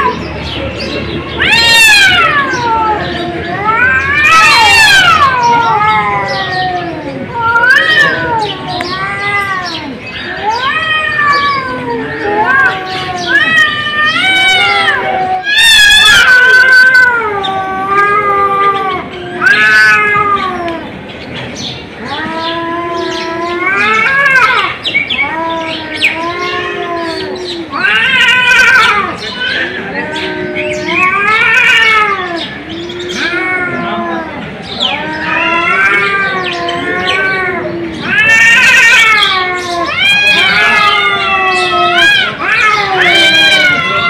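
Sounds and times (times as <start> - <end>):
cat yowling: 1.3 - 20.9, 22.0 - 44.0.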